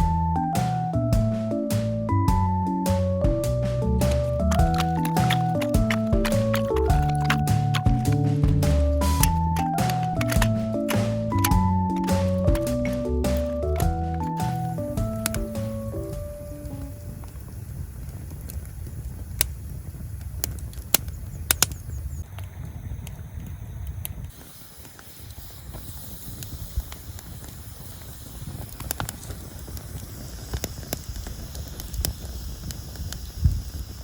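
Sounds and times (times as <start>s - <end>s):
wood fire crackling: 1.2s - 34.0s
sharp pops from fire: 2.9s - 34.0s.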